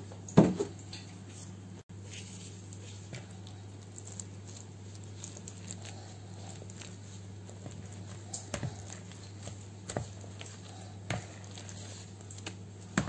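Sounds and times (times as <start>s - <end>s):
steady low hum: 0.0s - 13.0s
potato masher squishing potatoes: 2.0s - 13.0s.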